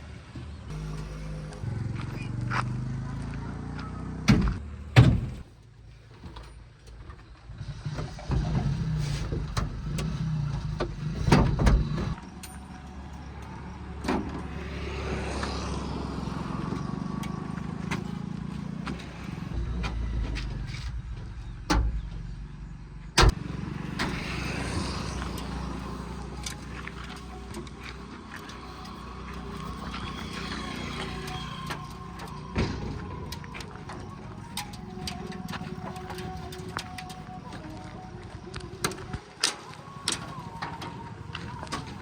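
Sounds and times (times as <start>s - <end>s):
diesel machinery engine running: 0.0s - 5.5s, 7.2s - 42.0s.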